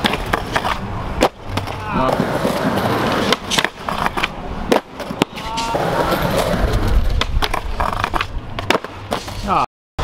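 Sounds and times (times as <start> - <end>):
sharp skateboard clacks: 0.0 - 9.5
skateboard rolling on concrete: 0.0 - 9.6.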